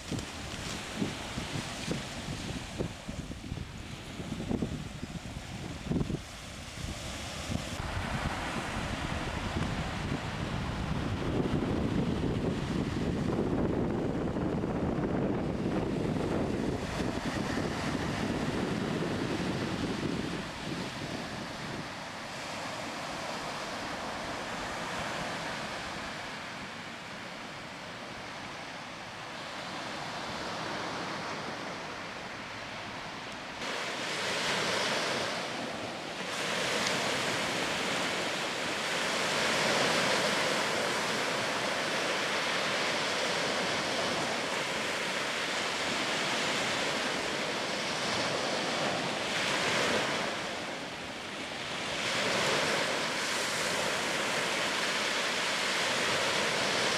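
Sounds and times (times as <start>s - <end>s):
sea waves washing on beach: 0.0s - 56.9s.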